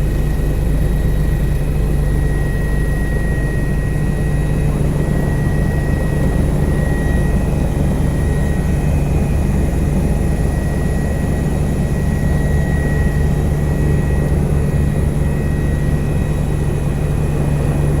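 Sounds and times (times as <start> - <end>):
helicopter rotor and engine drone: 0.0 - 18.0
high-pitched turbine whine: 0.0 - 18.0.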